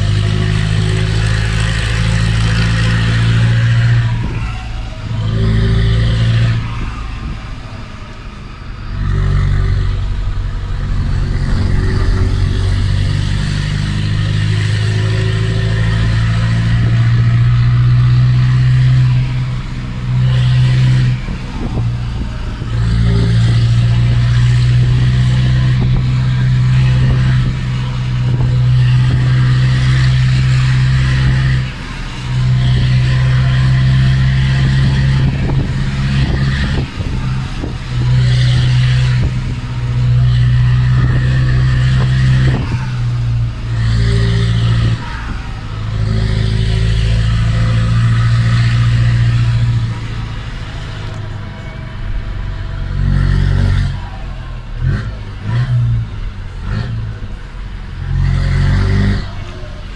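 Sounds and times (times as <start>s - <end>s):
truck diesel engine pulling: 0.0s - 59.9s.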